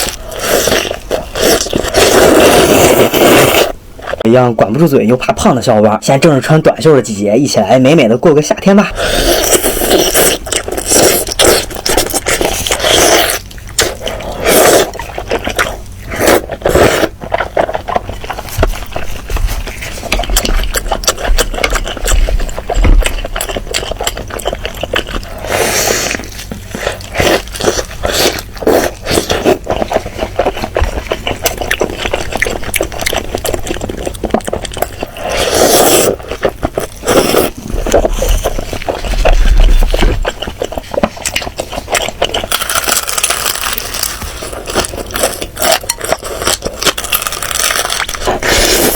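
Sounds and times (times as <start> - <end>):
wet chewing and slurping: 0.0 - 4.2, 9.0 - 48.9.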